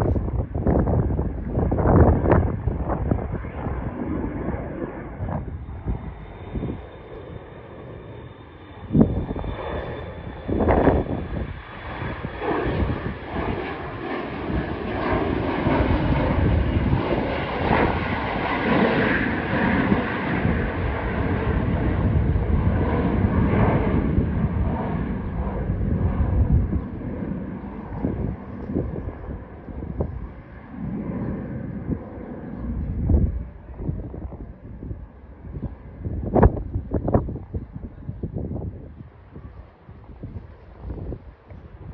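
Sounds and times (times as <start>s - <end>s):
airplane engine taking off: 0.0s - 41.9s
wind buffeting microphone: 0.0s - 41.9s.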